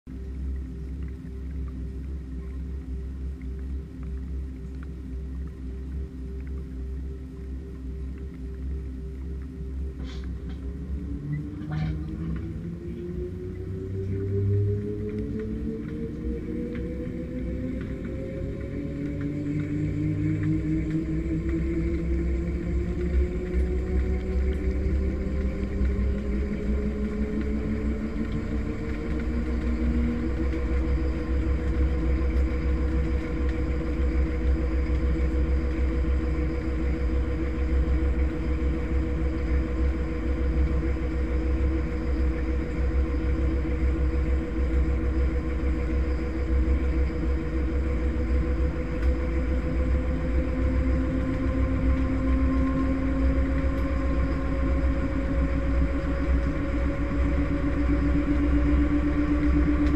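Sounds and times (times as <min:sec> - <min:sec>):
washing machine spin cycle rumble: 0:00.0 - 0:59.9.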